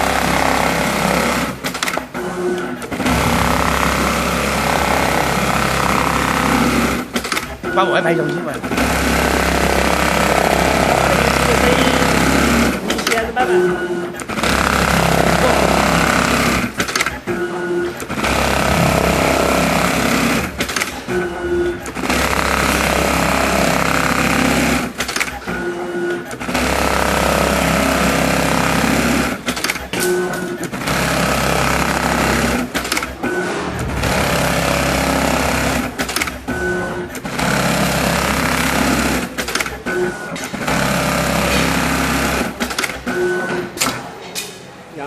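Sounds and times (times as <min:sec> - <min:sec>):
sewing machine stitching leather: 0:00.0 - 0:07.6, 0:08.6 - 0:13.2, 0:14.2 - 0:44.0.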